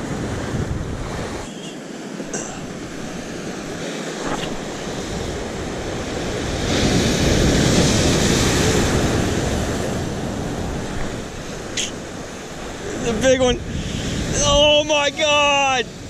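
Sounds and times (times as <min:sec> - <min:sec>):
wave crashing on rocks: 0:00.0 - 0:16.0.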